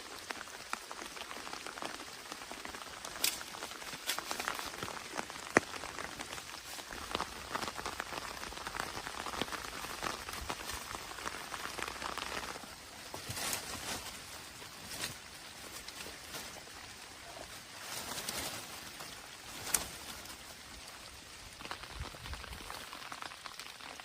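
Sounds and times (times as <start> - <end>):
rain drops pattering: 0.0 - 24.0.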